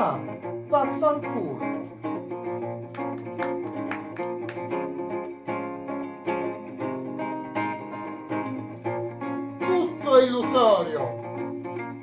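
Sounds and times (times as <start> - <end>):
fingerpicked acoustic guitar: 0.0 - 12.0.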